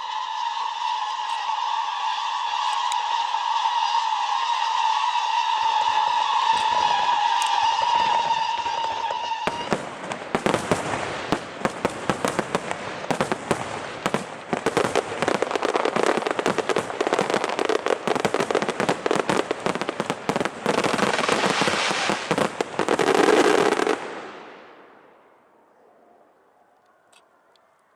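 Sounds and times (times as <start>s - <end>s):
firework whistling: 0.0s - 25.5s
fireworks crackling and banging: 0.0s - 25.5s.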